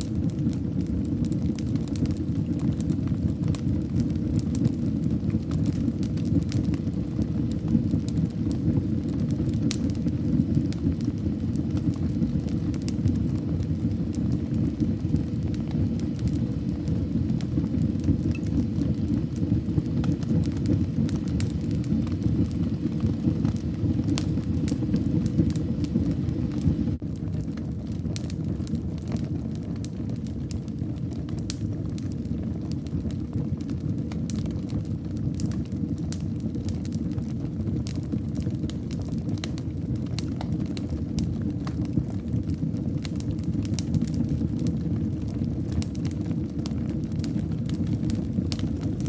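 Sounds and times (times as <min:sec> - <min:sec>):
fire crackling and popping: 0:00.0 - 0:49.0
fire flames rumbling: 0:00.0 - 0:49.0.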